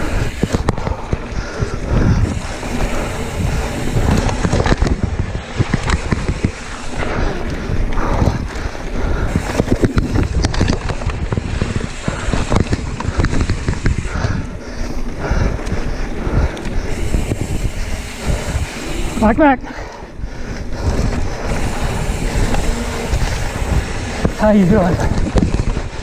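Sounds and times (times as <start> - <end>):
bike rattling over bumps: 0.0 - 26.0
bike tyres rolling on dirt: 0.0 - 26.0
wind buffeting microphone: 0.0 - 26.0.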